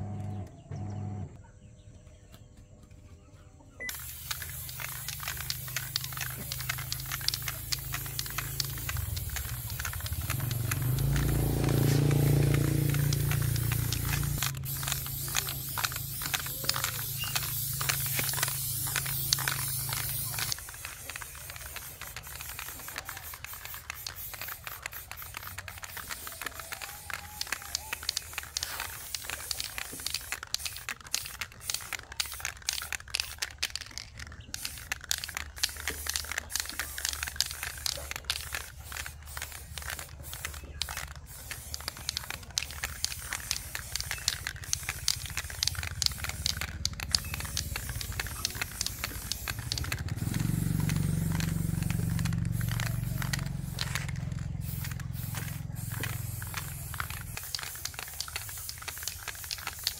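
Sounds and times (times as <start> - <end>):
spray paint can hissing: 3.8 - 59.9.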